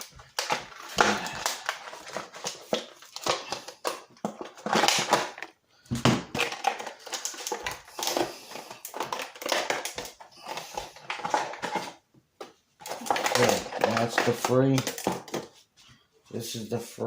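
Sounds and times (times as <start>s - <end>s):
packaging crackling and scraping: 0.0s - 5.6s, 6.2s - 15.7s.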